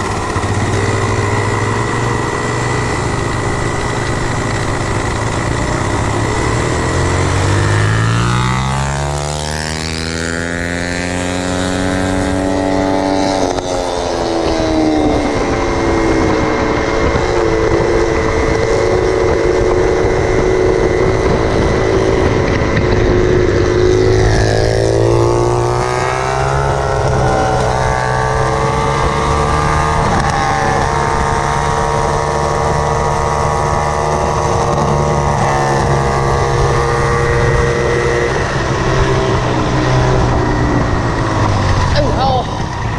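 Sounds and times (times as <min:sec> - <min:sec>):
scooter engine revving: 0:00.0 - 0:42.9.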